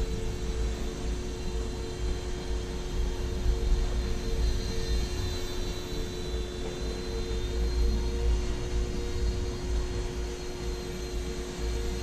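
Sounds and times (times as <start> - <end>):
model airplane motor whine: 0.0 - 12.0.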